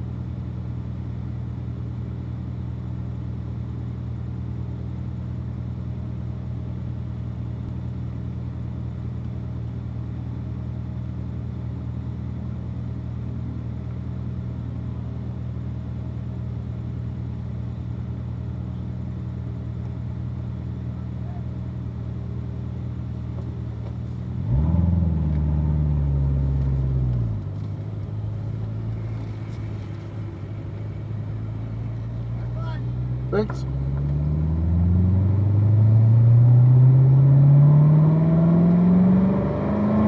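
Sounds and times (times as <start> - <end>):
car engine idling: 0.0 - 36.4.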